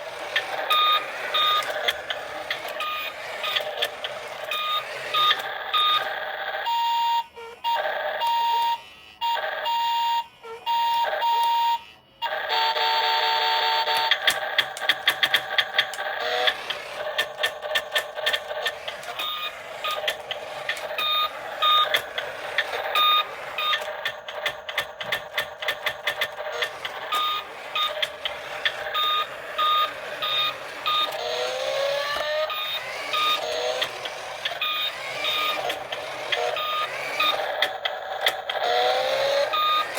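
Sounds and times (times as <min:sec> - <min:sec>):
toy electronic beeps: 0:00.0 - 0:39.9.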